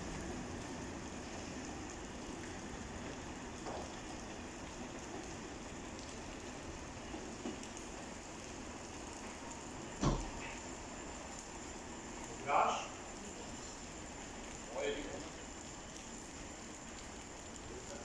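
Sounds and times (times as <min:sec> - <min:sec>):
steady rain on canopy: 0:00.0 - 0:18.0.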